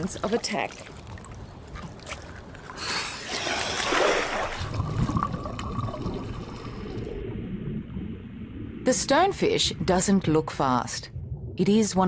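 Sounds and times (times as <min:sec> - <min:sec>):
water splashing and rushing: 0:00.0 - 0:12.0.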